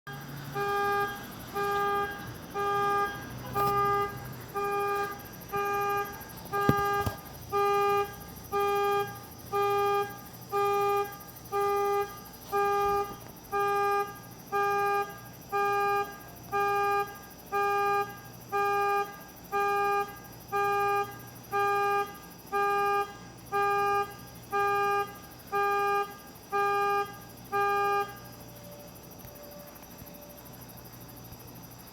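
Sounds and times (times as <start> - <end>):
car alarm horn honks: 0.1 - 29.8.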